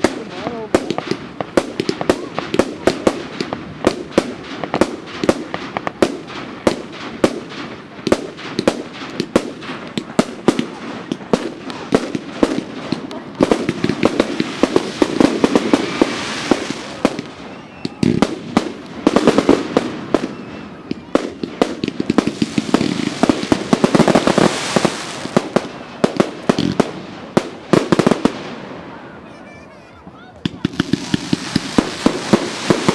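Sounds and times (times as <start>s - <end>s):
fireworks cracking and banging: 0.0s - 32.9s.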